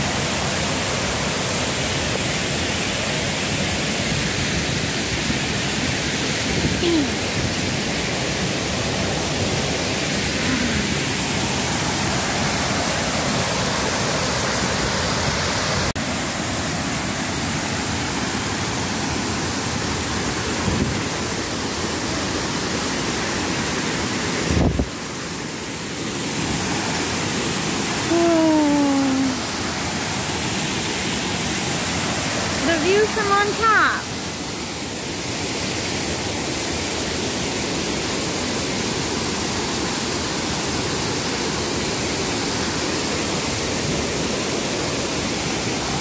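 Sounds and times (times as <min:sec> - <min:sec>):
waterfall and river rapids roaring: 0:00.0 - 0:46.0.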